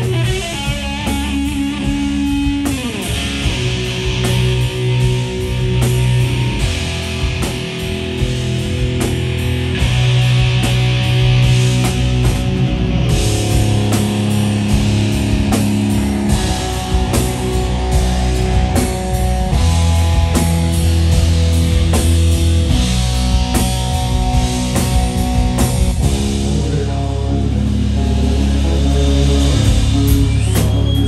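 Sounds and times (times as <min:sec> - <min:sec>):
drum and cymbal hits: 0:00.0 - 0:27.0, 0:27.9 - 0:31.0
bass guitar: 0:00.0 - 0:31.0
electric guitar: 0:00.0 - 0:31.0.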